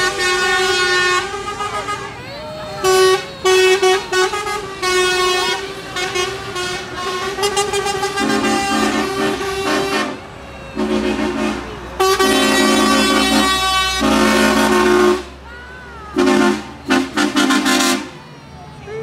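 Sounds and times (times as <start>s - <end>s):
lorry air horn blasts: 0.0s - 15.4s, 16.1s - 18.2s
diesel engine rumble: 0.0s - 19.0s.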